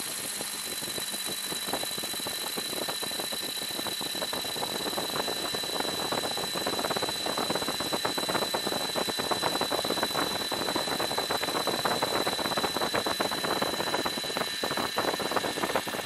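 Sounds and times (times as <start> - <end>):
helicopter rotor beat: 0.0 - 16.0.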